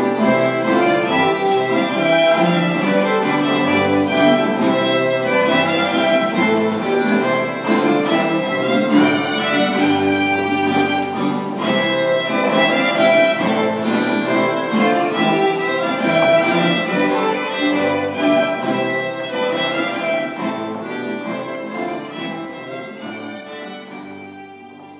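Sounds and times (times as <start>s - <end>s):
baroque ensemble playing: 0.0s - 24.9s
bowed strings: 0.0s - 24.9s.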